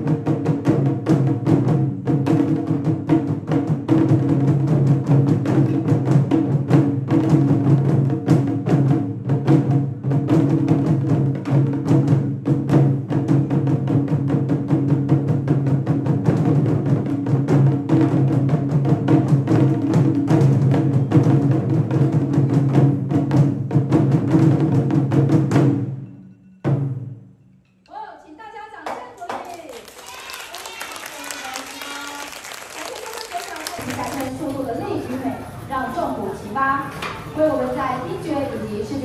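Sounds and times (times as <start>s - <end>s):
taiko drum ensemble playing: 0.0s - 27.4s, 32.8s - 39.0s.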